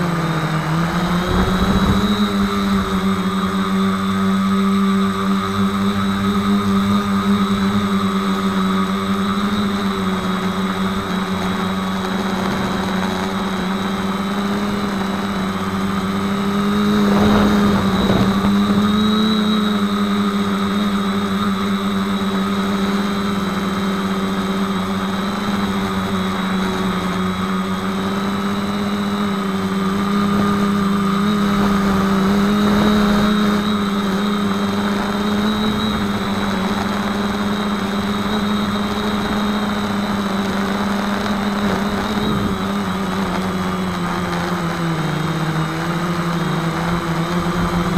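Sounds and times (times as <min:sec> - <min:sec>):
quadcopter motors buzzing: 0:00.0 - 0:47.9.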